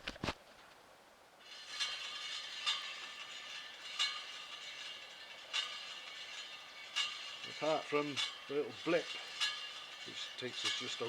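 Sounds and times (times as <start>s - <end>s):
wheel spinning whir: 1.5s - 11.0s.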